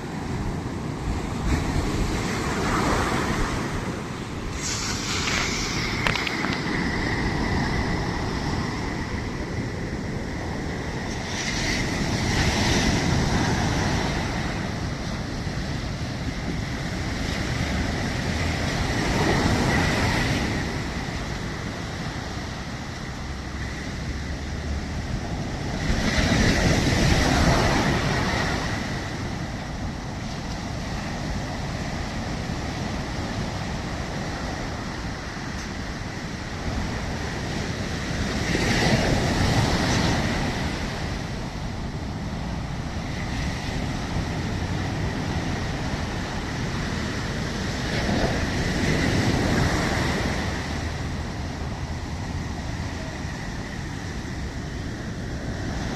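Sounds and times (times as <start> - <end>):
sea waves breaking: 0.0 - 55.9.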